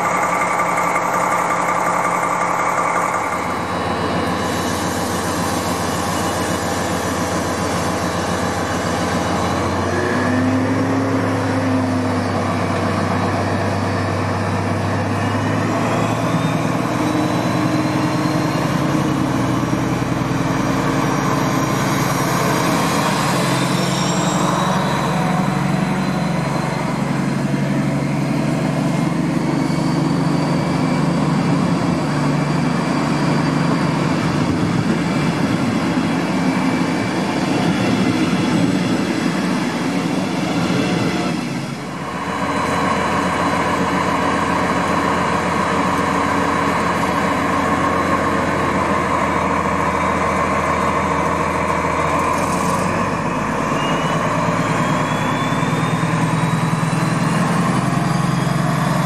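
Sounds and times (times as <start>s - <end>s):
diesel locomotive engine running: 0.0s - 59.0s
thin rising whine: 0.0s - 59.0s.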